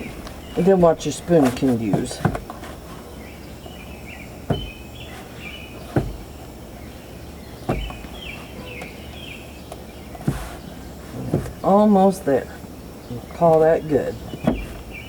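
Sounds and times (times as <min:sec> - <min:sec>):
dull thumps of dough kneading: 0:00.0 - 0:15.0
small birds chirping: 0:00.0 - 0:15.0.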